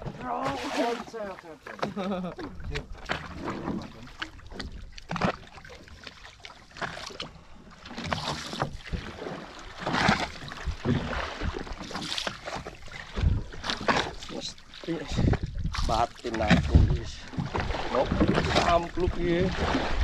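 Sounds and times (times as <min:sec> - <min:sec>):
water slapping against boat hull: 0:00.0 - 0:20.0.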